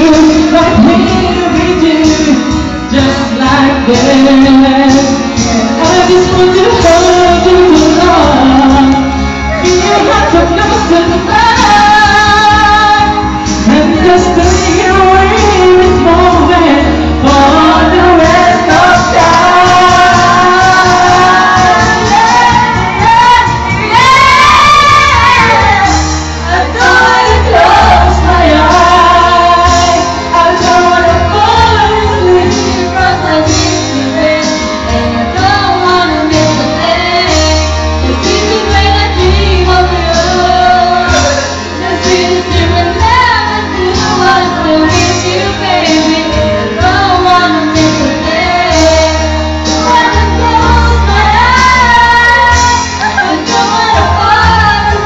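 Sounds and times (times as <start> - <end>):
instrumental backing with bass: 0.0 - 55.0
woman singing: 0.0 - 55.0.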